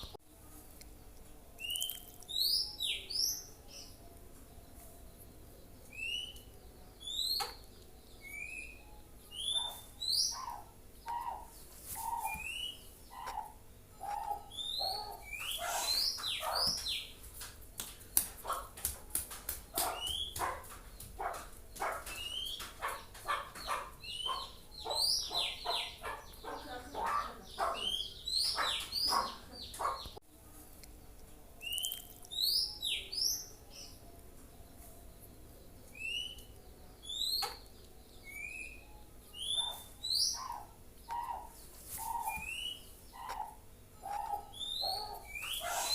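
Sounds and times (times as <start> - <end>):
bird chirping and singing: 1.6 - 17.2, 19.7 - 30.2, 31.6 - 45.9.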